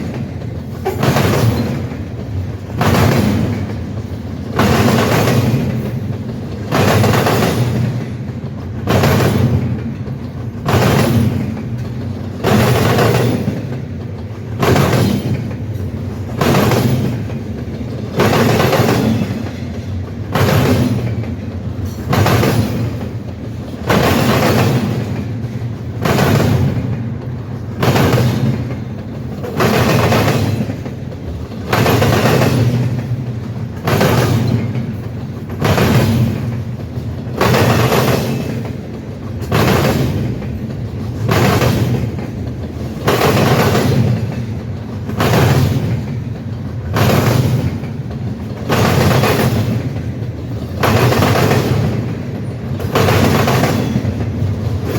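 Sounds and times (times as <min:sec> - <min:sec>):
train rumble: 0:00.0 - 0:54.9
train wheels clanking over crossing: 0:00.0 - 0:54.9.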